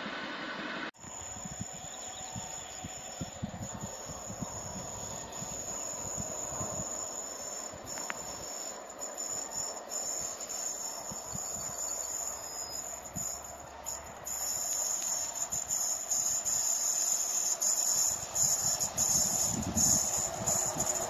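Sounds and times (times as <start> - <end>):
train rumble: 0.0 - 21.0
insects chirring: 1.0 - 21.0.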